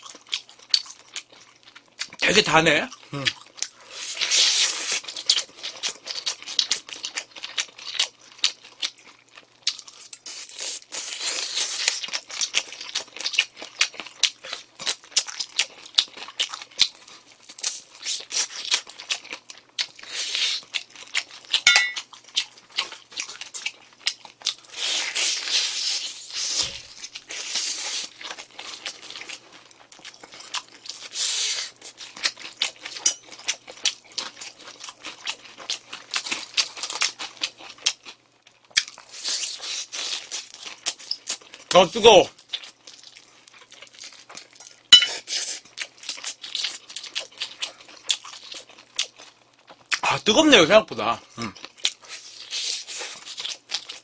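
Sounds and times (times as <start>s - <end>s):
crunching fried chicken: 0.0s - 54.0s.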